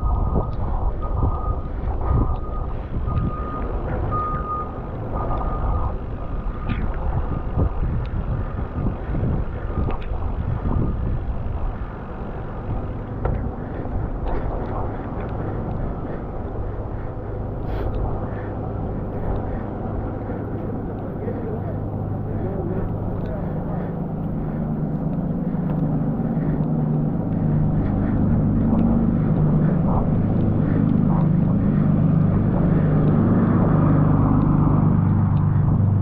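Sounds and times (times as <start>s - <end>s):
road and traffic rumble: 0.0s - 36.0s
wind buffeting microphone: 0.0s - 36.0s.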